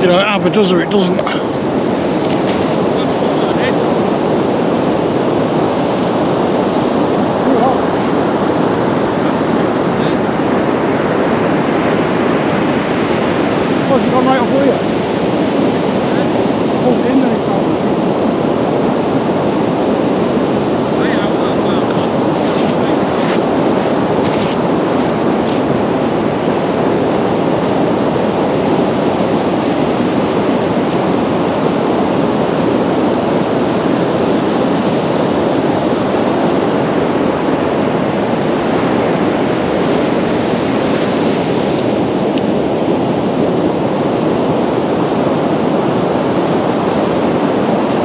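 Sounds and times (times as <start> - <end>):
surf breaking on beach: 0.0 - 48.0
wind on microphone: 0.0 - 48.0.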